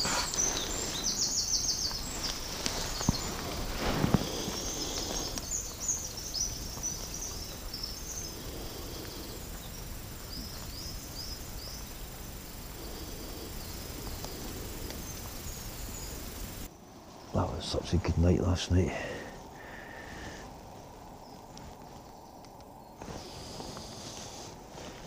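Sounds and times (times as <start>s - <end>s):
songbirds chirping: 0.0s - 25.0s
steady background hiss: 0.0s - 25.0s.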